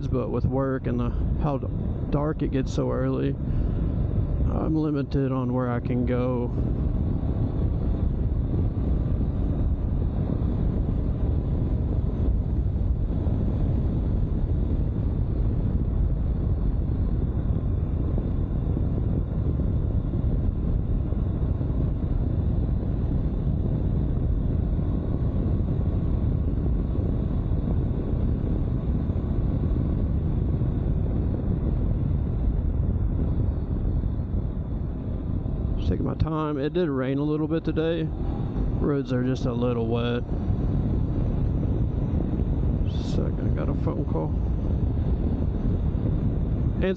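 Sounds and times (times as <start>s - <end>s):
motorcycle engine rumble: 0.0s - 46.9s
wind rushing on microphone: 0.0s - 46.9s.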